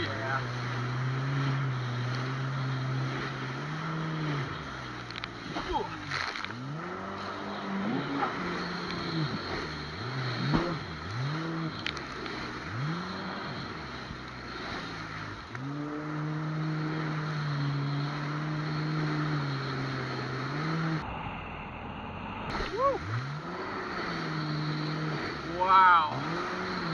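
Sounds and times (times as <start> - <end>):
jet ski engine revving: 0.0 - 21.1, 22.4 - 26.9.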